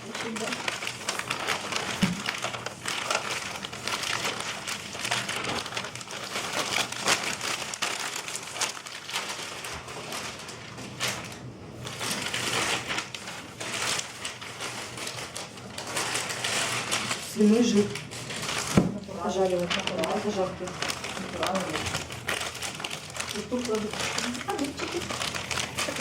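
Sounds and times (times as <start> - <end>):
wrapping material crinkling: 0.0 - 26.0.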